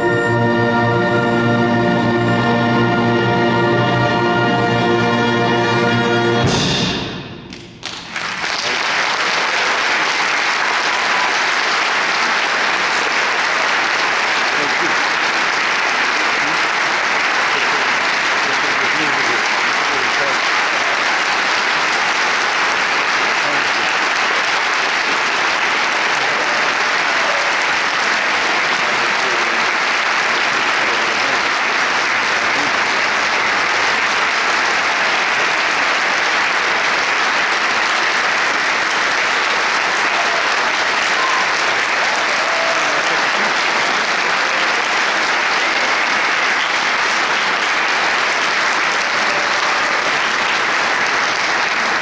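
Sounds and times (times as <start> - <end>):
crowd applauding: 7.5 - 52.0.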